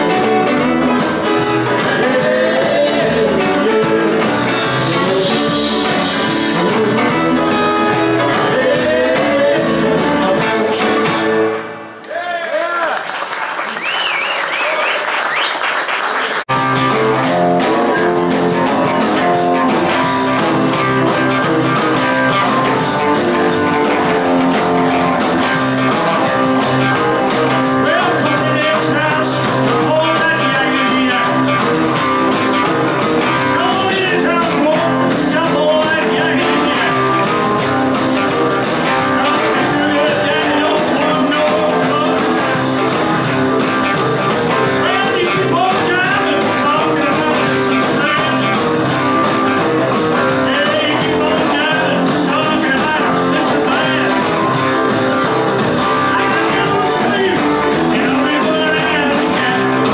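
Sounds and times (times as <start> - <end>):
person singing: 0.0 - 11.5, 16.7 - 59.9
rock and roll band playing: 0.0 - 59.9.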